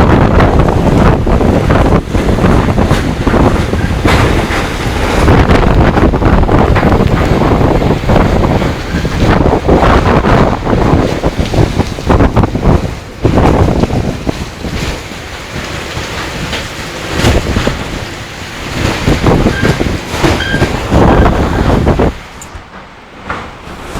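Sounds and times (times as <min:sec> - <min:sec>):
gusty wind buffeting microphone: 0:00.0 - 0:23.9.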